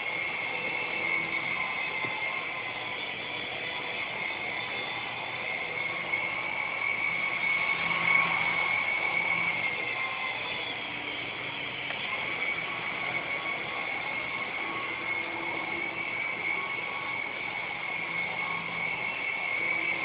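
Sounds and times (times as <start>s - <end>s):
toy helicopter rotors whining: 0.0s - 20.0s.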